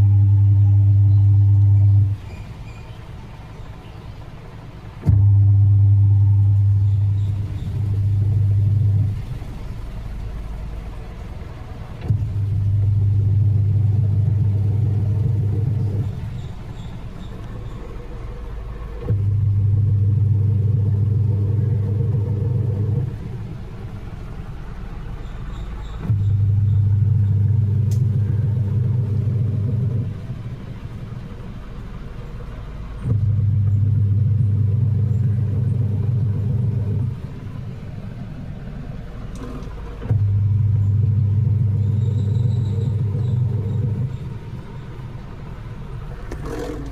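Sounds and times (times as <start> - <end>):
washing machine motor humming: 0.0 - 46.9.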